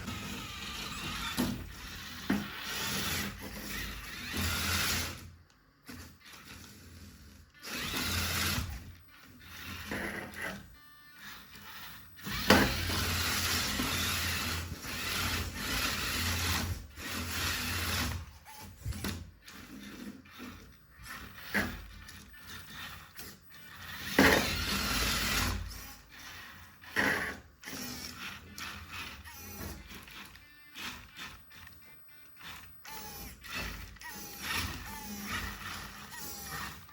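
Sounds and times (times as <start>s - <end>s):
toy car motor whirring: 0.0s - 36.9s.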